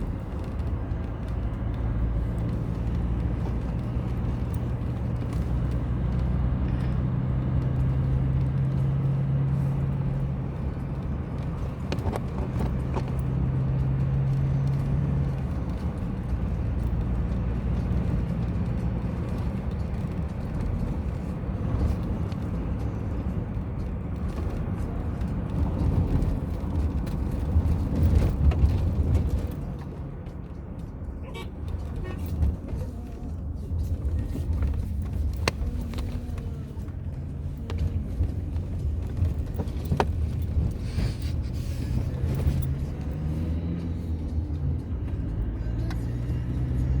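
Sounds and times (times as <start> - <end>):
engine hum: 0.0 - 47.0
vehicle road rumble: 0.0 - 47.0.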